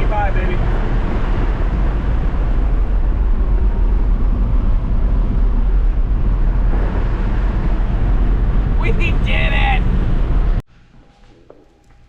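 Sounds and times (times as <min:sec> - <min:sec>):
pickup truck engine rumble: 0:00.0 - 0:10.6.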